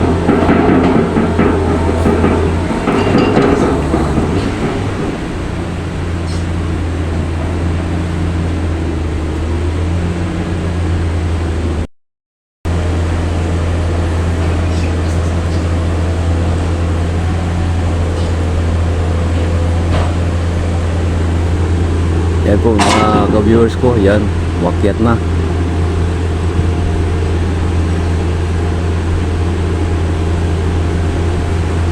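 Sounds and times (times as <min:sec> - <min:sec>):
diesel engine humming: 0:00.0 - 0:11.9, 0:12.7 - 0:31.9.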